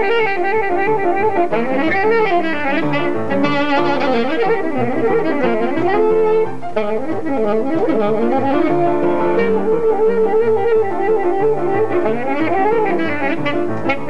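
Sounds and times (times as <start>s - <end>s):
saxophone melody with vibrato: 0.0s - 14.0s
upright piano accompaniment: 0.0s - 14.0s.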